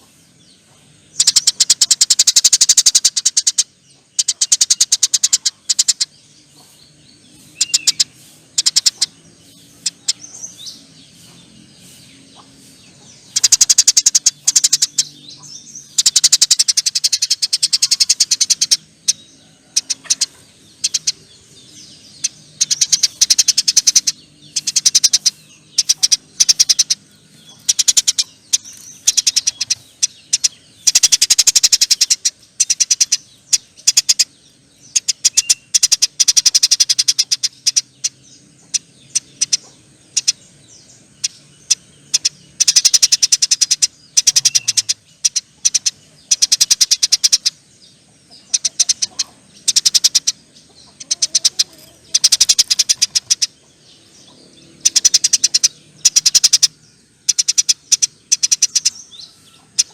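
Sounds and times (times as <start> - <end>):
sparrow chattering trills: 0.0 - 59.9.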